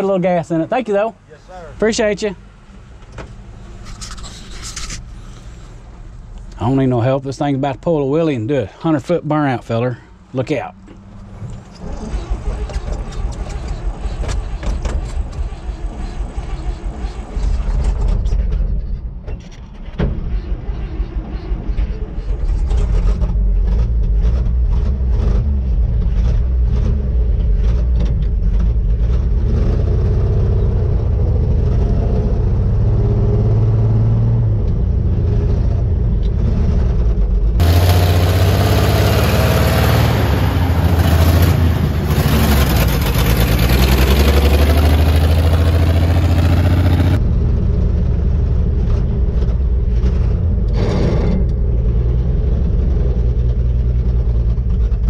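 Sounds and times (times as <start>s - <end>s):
truck engine low rumble: 1.4s - 55.0s.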